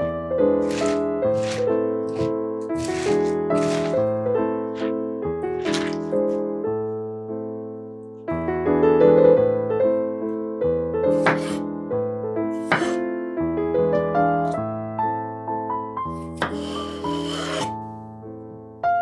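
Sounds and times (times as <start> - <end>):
piano chords ringing: 0.0 - 16.2.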